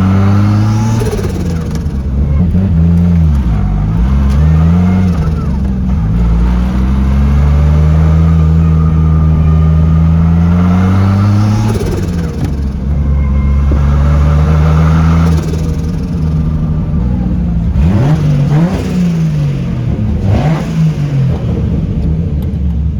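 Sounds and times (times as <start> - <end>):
turbocharged car engine revving: 0.0 - 22.9.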